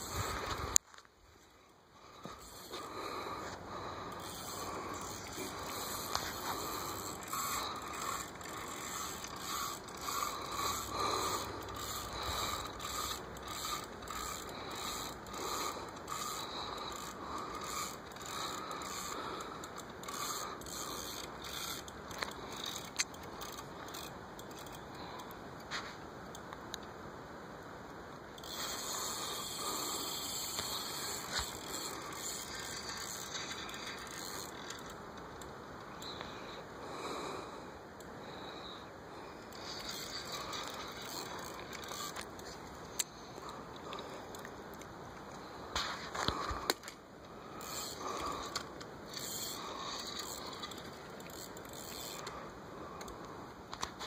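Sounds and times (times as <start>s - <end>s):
fishing reel ratchet clicking: 0.0s - 0.8s, 2.3s - 3.0s, 4.0s - 25.4s, 28.4s - 36.4s, 38.0s - 45.0s, 46.2s - 54.0s.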